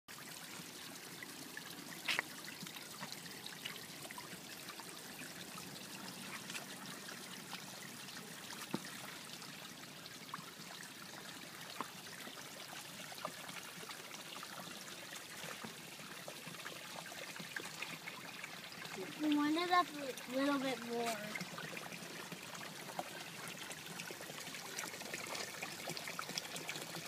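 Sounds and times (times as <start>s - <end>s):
water trickling into stone channel: 0.1s - 27.0s.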